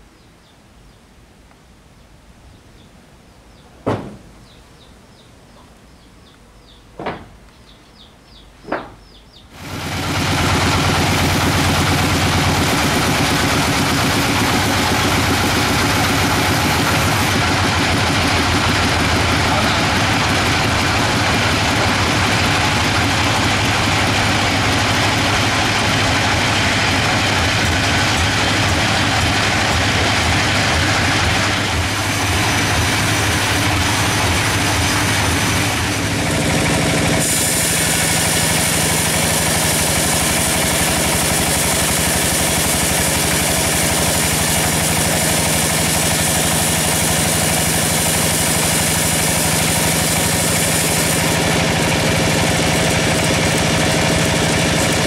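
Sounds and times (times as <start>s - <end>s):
sawmill machine hum and whine: 9.5s - 55.0s.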